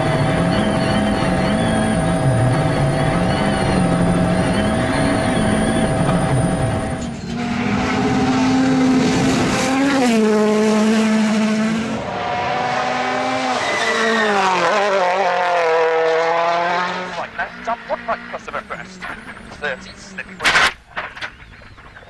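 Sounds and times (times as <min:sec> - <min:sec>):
rally car engine at high revs: 0:00.0 - 0:20.6.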